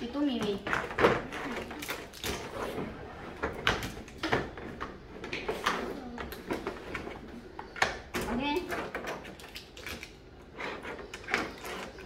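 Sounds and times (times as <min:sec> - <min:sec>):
plastic toys clicking and knocking: 0:00.2 - 0:02.5, 0:03.4 - 0:12.0.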